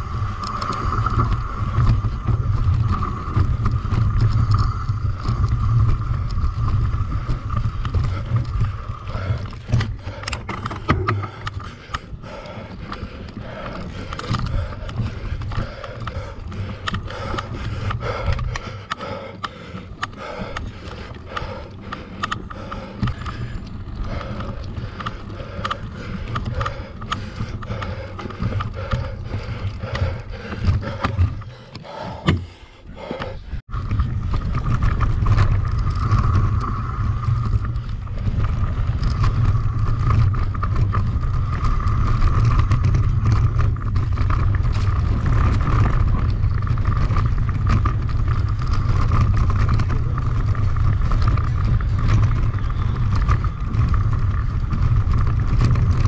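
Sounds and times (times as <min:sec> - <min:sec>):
mountain bike rattling and clicking: 0:00.0 - 0:56.0
tyres and wind rumbling: 0:00.0 - 0:56.0.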